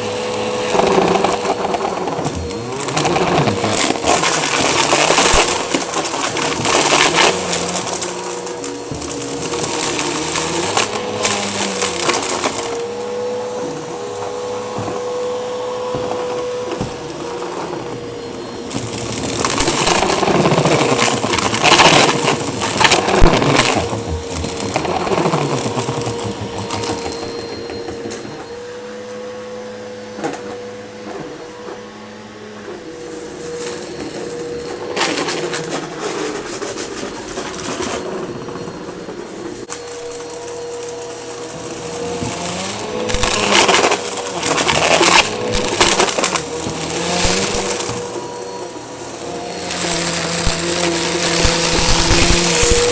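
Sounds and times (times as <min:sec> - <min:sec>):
debris crunching up vacuum nozzle: 0:00.0 - 0:52.9
vacuum cleaner motor whine: 0:00.0 - 0:52.9.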